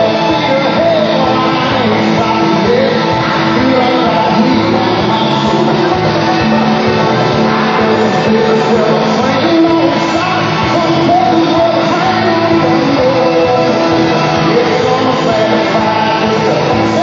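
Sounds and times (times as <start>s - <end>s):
loud band music: 0.0s - 17.0s
person singing: 0.0s - 17.0s.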